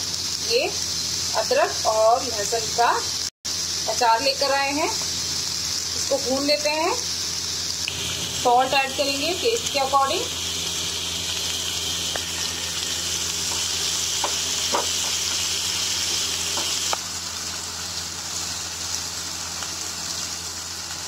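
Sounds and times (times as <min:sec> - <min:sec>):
garlic and ginger sizzling in oil: 0:00.0 - 0:21.0.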